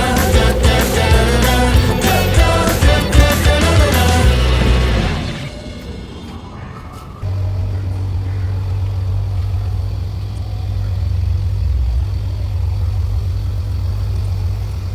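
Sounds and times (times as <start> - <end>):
vehicle low rumble: 0.0 - 14.9.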